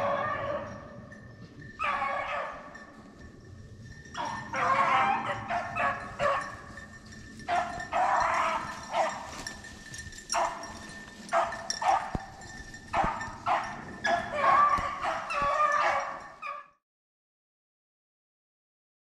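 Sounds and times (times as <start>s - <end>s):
dogs baying: 0.0s - 16.8s.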